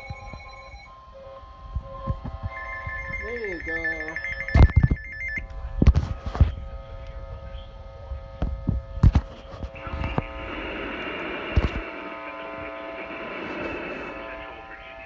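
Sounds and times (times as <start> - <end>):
static hiss: 0.0 - 15.0
steady electrical buzz: 0.0 - 15.0.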